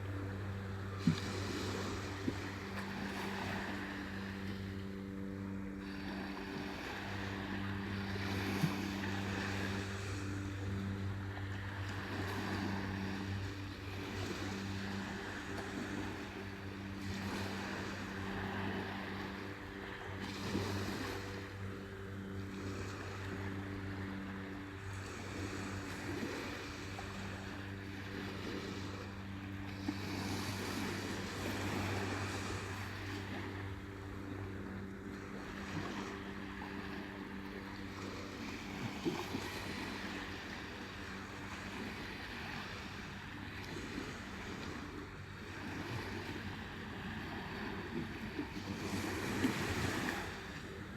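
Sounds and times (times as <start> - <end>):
surf washing onto beach: 0.0 - 22.0, 22.6 - 50.9
low mechanical hum: 0.0 - 50.9.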